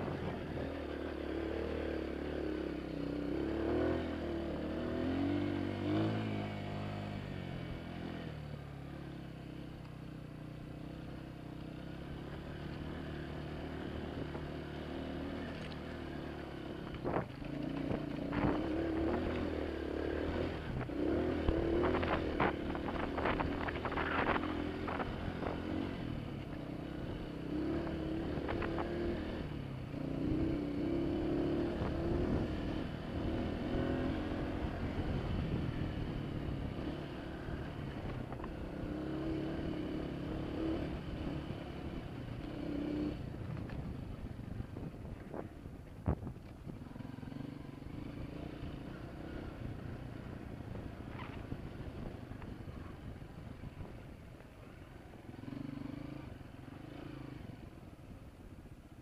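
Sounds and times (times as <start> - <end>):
dirt bike engine running: 9.2 - 57.2.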